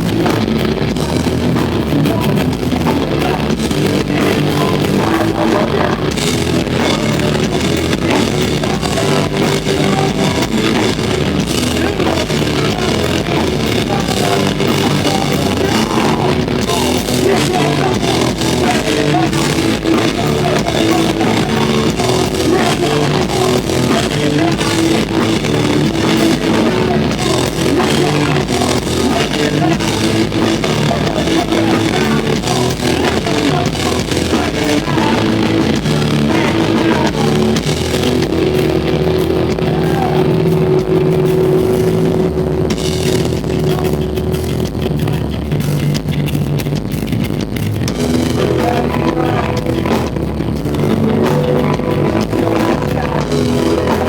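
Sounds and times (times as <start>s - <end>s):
person singing: 0.0s - 41.7s, 47.9s - 54.0s
bass guitar: 0.0s - 54.0s
distorted electric guitars: 0.0s - 54.0s
pounding drum kit: 0.0s - 54.0s.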